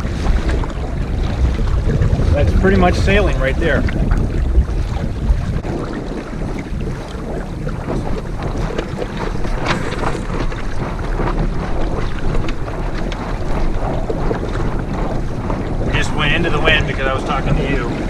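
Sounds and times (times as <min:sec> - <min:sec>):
water splashing along hull: 0:00.0 - 0:18.0
wind buffeting microphone: 0:00.0 - 0:18.0.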